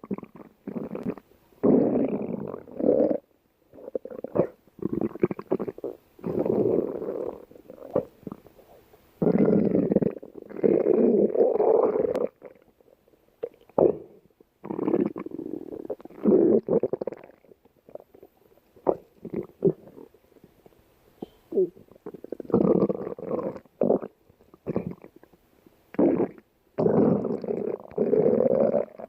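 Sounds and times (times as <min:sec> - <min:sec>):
stomach growling: 0:00.0 - 0:20.8, 0:21.5 - 0:29.0.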